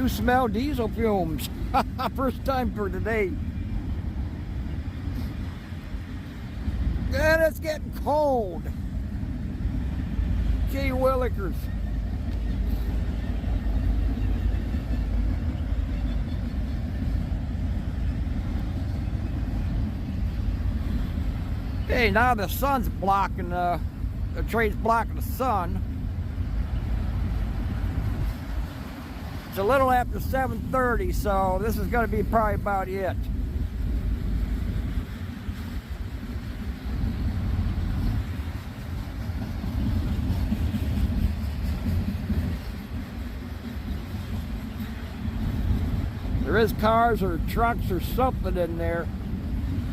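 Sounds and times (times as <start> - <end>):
freight train wheels rumbling on rails: 0.0 - 49.9.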